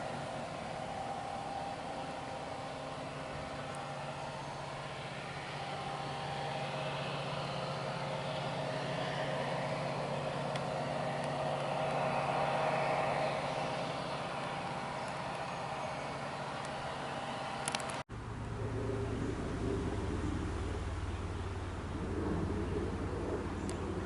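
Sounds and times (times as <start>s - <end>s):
freight locomotives humming: 0.0s - 24.0s.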